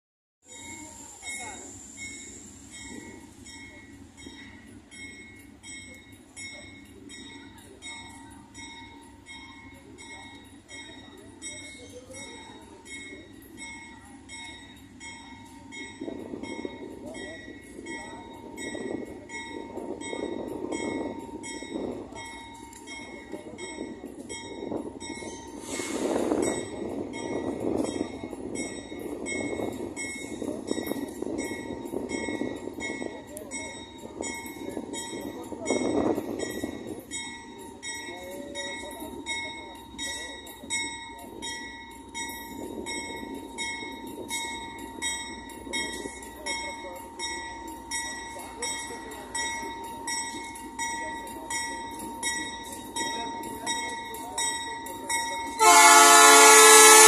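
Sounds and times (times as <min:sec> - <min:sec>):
diesel locomotive rumble: 0:00.4 - 0:57.0
train bell ringing: 0:00.4 - 0:57.0.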